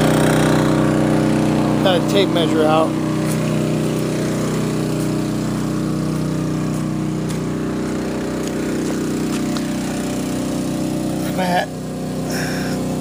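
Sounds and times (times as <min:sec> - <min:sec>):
generator running: 0:00.0 - 0:13.0.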